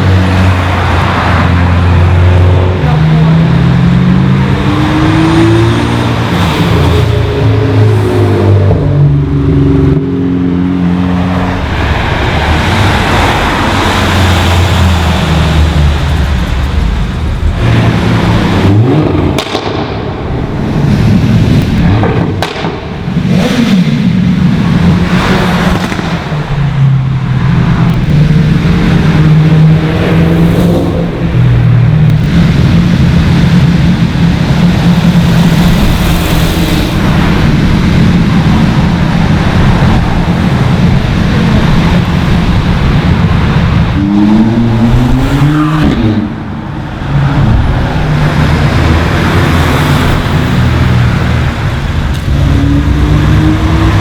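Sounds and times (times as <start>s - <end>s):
cars passing at speed: 0.0s - 54.0s.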